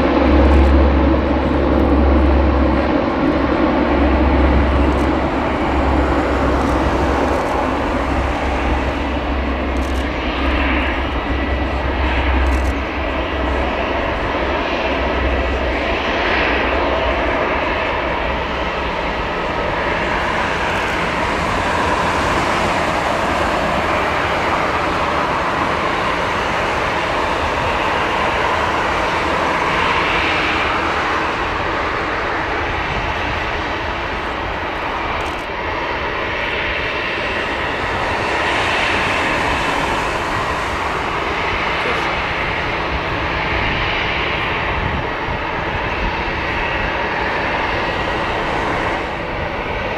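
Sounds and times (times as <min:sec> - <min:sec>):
turboprop engines droning: 0:00.0 - 0:49.9.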